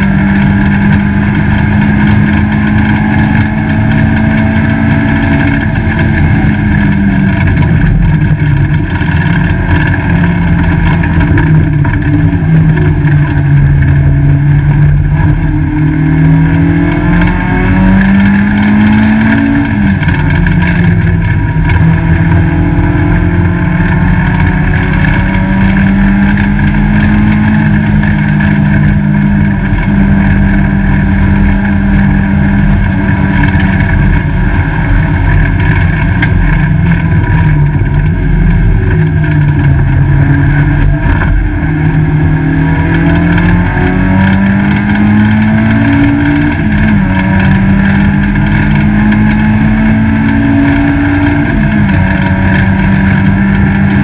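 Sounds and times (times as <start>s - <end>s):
race car engine under load: 0.0s - 54.0s
road noise: 0.0s - 54.0s.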